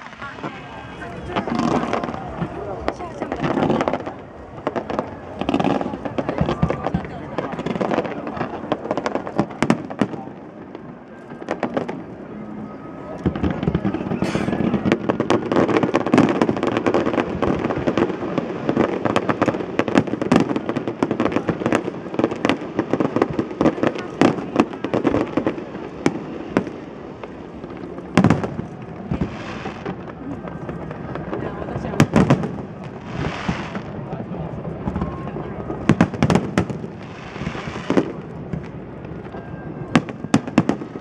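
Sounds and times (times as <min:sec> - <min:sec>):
fireworks bursts and crackling: 0:00.0 - 0:41.0.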